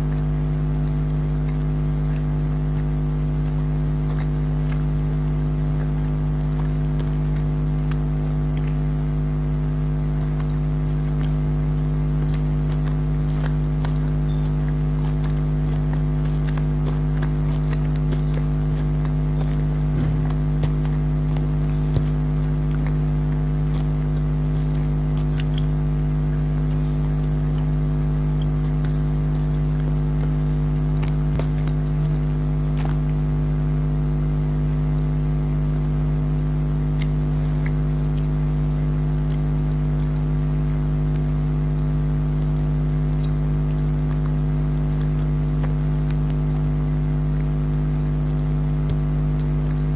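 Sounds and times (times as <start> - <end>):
chewing gummy candies: 0.0 - 49.9
loud steady electrical hum: 0.0 - 49.9.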